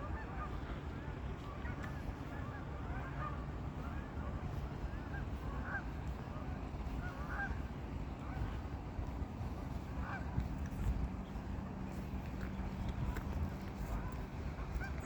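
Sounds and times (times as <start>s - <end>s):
geese honking: 0.0s - 15.0s
steady low rumble: 0.0s - 15.0s.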